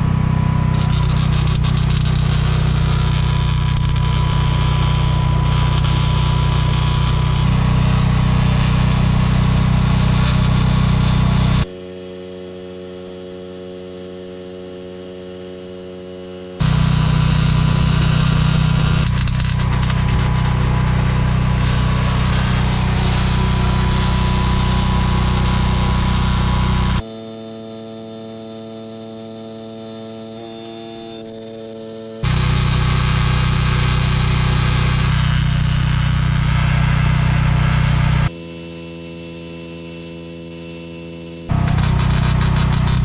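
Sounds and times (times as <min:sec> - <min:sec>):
welding equipment electrical hum: 0:00.0 - 0:43.0.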